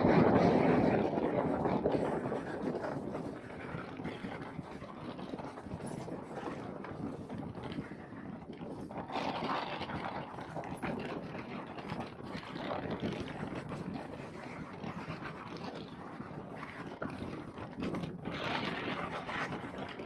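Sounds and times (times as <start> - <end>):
water slapping boat hull: 0.0 - 20.0
wind buffeting microphone: 0.0 - 20.0.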